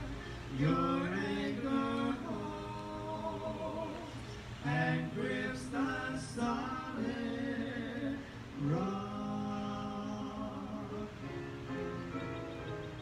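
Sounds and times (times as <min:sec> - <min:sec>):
singing a slow hymn: 0:00.0 - 0:13.0.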